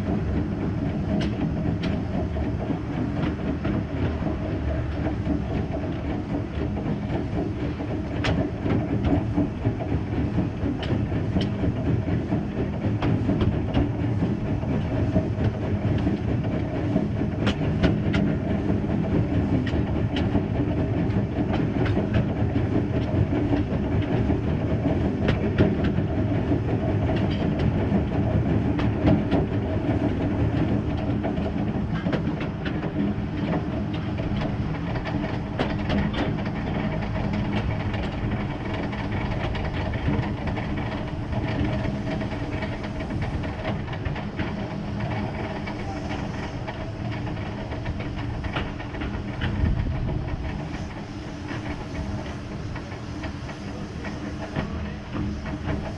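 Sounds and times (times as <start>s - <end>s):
steam locomotive rumbling: 0.0s - 55.9s
wheels clicking on rails: 0.0s - 55.9s.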